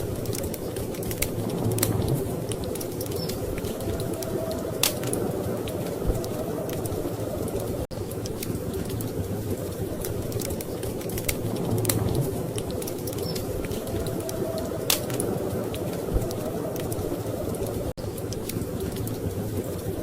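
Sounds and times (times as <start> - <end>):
fire pops: 0.0 - 20.0
storm wind rumble: 0.0 - 20.0
wood fire crackling: 0.0 - 20.0.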